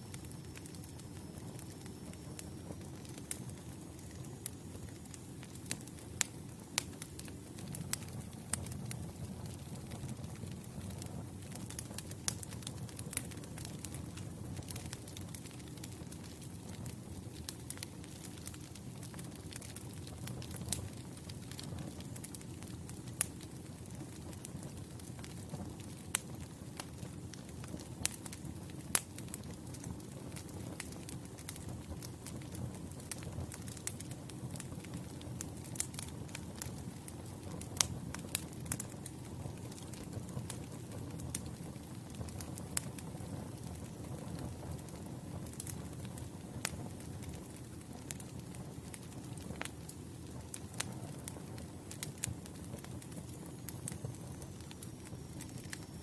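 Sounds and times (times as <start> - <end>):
campfire crackling and popping: 0.0 - 56.0
low rumble of burning logs: 0.0 - 56.0.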